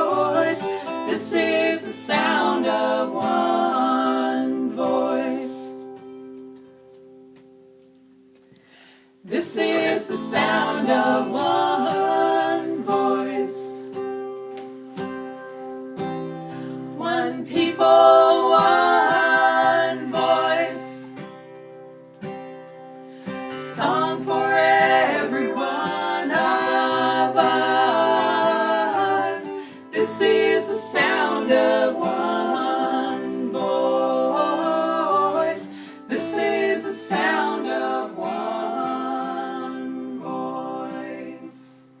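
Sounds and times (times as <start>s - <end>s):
voices singing in harmony: 0.0s - 6.1s, 9.2s - 14.2s, 16.5s - 21.4s, 23.4s - 42.0s
plucked acoustic guitar: 0.0s - 8.5s, 9.3s - 41.3s.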